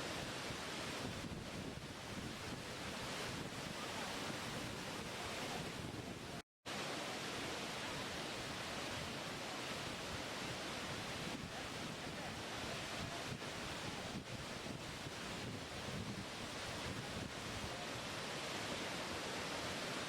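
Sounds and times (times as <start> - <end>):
waterfall rushing: 2.1 - 20.0.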